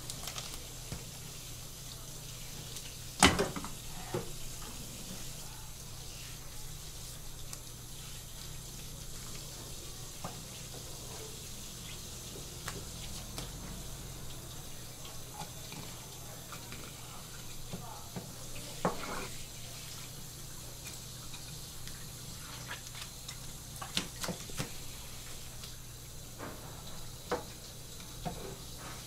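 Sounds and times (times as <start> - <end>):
faucet spraying water: 0.8 - 28.8.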